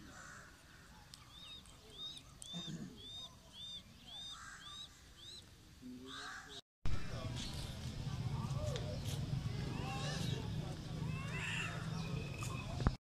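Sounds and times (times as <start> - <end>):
harsh low bird calls: 0.0 - 7.8, 8.4 - 13.0
bird chirping: 0.8 - 13.0.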